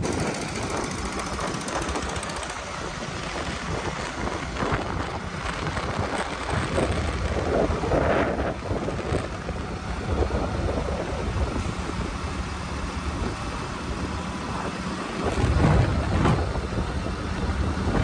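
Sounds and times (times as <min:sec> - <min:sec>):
road and traffic noise: 0:00.0 - 0:18.0
wind rushing over microphone: 0:00.0 - 0:18.0.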